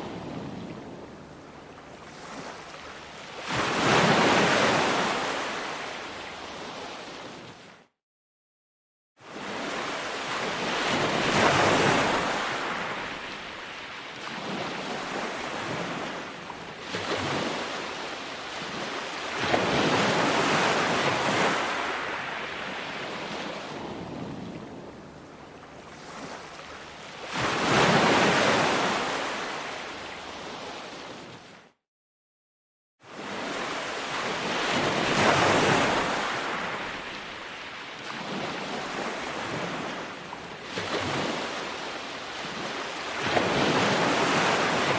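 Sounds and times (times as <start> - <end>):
ocean waves breaking on beach: 0.0 - 7.9, 9.2 - 31.8, 33.0 - 44.9.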